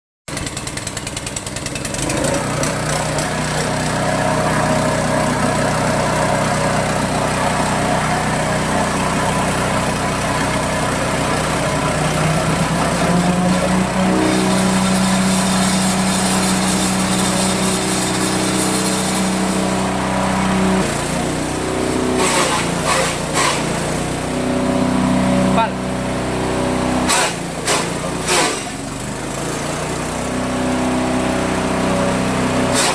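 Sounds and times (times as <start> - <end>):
chopper machine grinding: 0.3 - 32.9.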